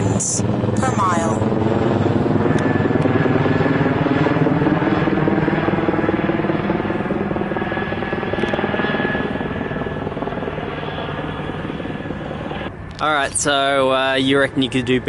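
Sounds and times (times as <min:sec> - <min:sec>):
helicopter rotor chop: 0:00.0 - 0:15.0.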